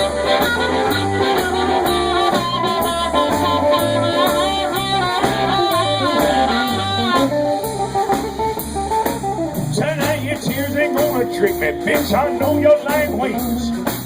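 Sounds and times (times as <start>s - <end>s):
guitar: 0.0s - 14.0s
horns holding chords: 0.0s - 14.0s
pulsing bass: 0.0s - 14.0s.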